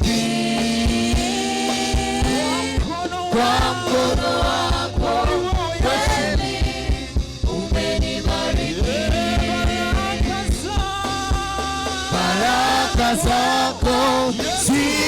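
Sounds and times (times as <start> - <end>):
gospel band music: 0.0 - 15.0
quick drum beat: 0.0 - 15.0.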